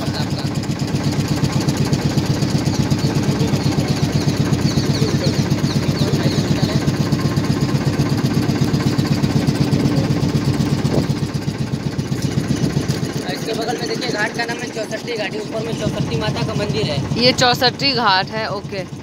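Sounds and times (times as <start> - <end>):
motorboat engine throbbing: 0.0 - 19.0.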